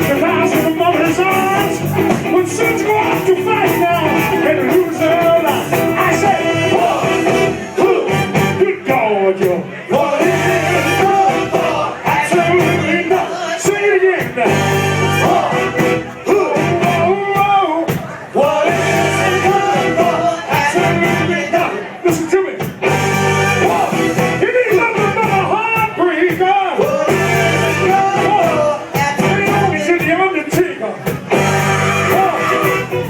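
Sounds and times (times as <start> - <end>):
live soul band playing: 0.0 - 33.0
person singing: 0.0 - 33.0.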